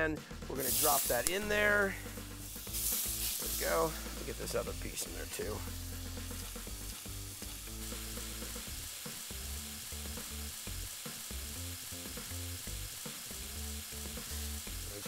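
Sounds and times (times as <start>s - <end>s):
fish frying in hot oil: 0.6s - 15.0s.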